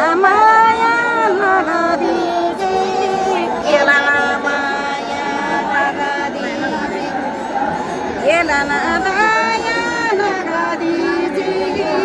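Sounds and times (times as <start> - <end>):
women singing folk song: 0.0 - 12.0.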